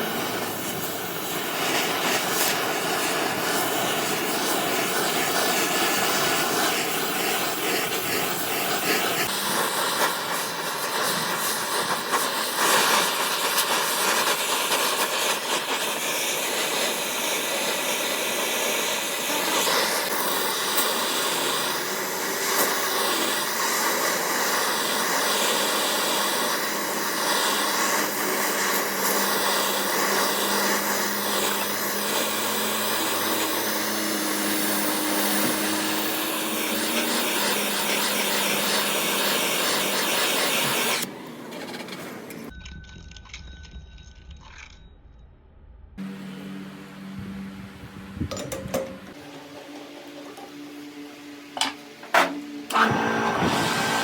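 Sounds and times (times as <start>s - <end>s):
shop machinery whooshing hiss: 0.0s - 41.2s, 49.0s - 54.0s.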